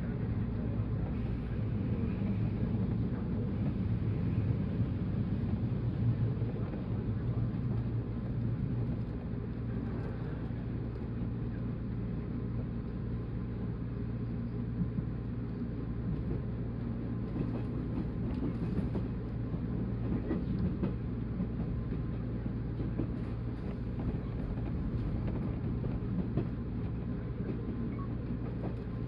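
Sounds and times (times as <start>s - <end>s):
wheels rumbling on rail: 0.0s - 29.0s.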